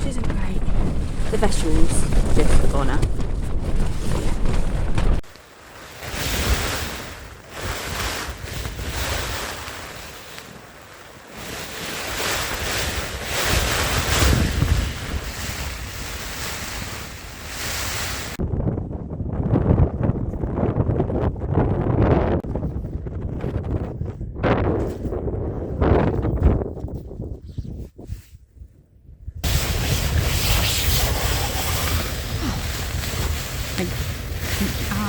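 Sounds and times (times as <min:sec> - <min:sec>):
wind buffeting microphone: 0:00.0 - 0:05.3, 0:06.0 - 0:35.0
gale-force wind gusting: 0:00.0 - 0:28.2, 0:29.1 - 0:35.0.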